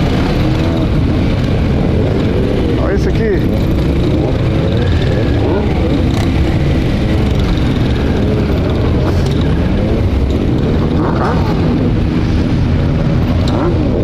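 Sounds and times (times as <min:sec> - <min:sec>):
motorcycle engines rumbling: 0:00.0 - 0:14.0.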